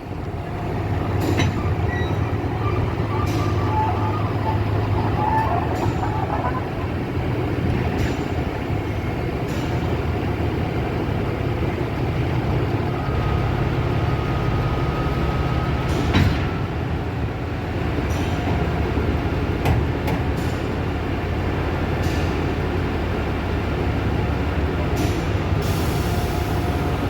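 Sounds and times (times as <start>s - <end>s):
diesel train engine rumbling: 0.0s - 27.0s.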